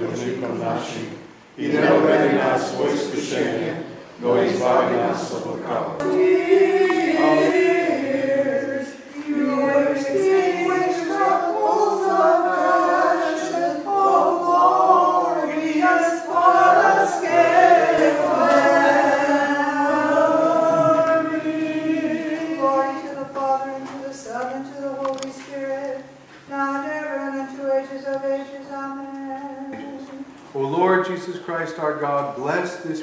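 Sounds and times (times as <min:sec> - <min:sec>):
congregation singing a hymn: 0:00.0 - 0:30.3.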